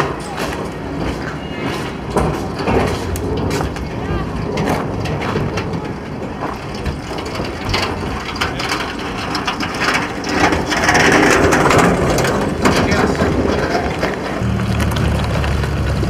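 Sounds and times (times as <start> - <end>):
hand truck rattling across snow: 0.0 - 16.0.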